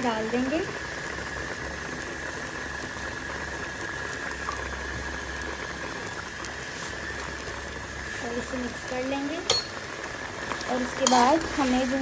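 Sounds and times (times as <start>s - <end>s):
curry boiling in pan: 0.0s - 12.0s.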